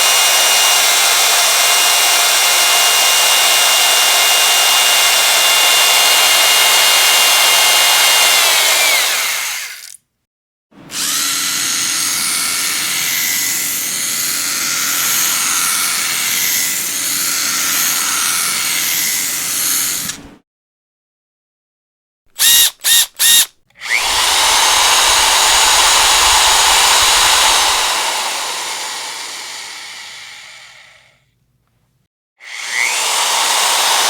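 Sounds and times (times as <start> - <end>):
electric drill whining: 0.0 - 10.0, 10.9 - 20.2, 22.4 - 31.2, 32.4 - 34.0.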